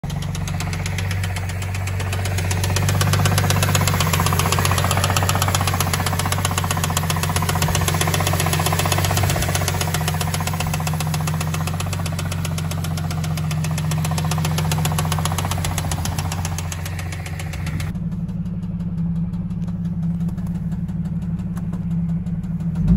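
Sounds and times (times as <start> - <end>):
car engine idling: 0.0 - 22.9
rapid even ticking: 0.0 - 22.9.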